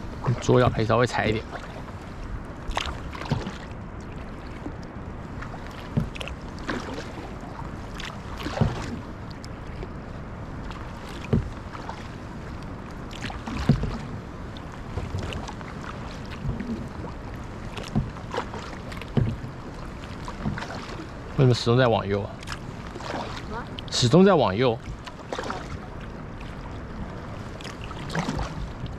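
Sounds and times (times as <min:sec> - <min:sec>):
paddles splashing in water: 0:00.0 - 0:28.9.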